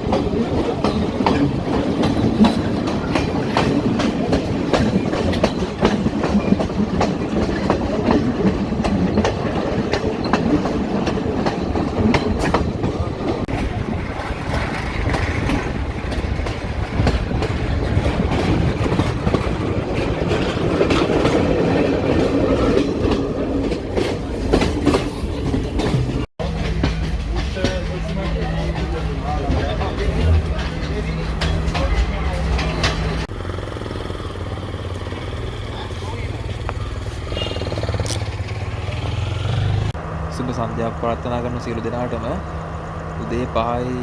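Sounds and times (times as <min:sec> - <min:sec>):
train rumble: 0:00.0 - 0:44.0
train wheels clacking on rail joints: 0:00.0 - 0:44.0.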